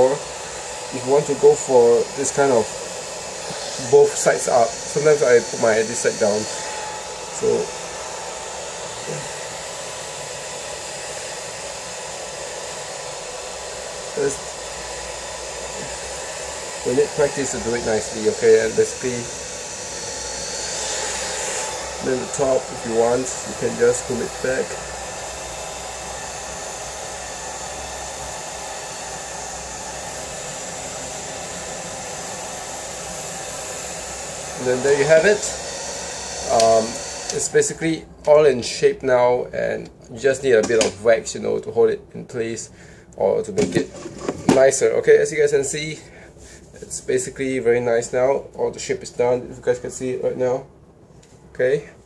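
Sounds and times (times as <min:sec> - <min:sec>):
hair dryer running: 0:00.0 - 0:38.8, 0:40.6 - 0:41.2, 0:43.0 - 0:46.7.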